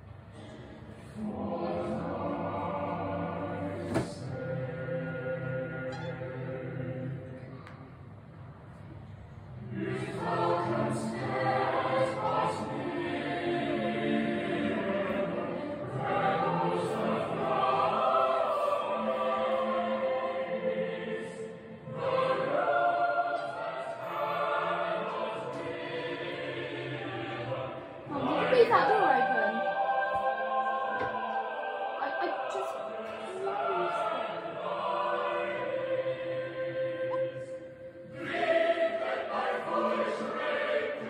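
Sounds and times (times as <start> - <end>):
choral singing: 0.0 - 8.2, 9.5 - 41.0.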